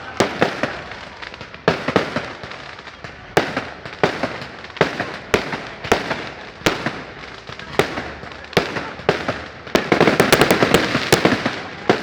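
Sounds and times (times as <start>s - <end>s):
bonfire crackling: 0.0s - 12.0s
loud fire pops: 0.0s - 12.0s.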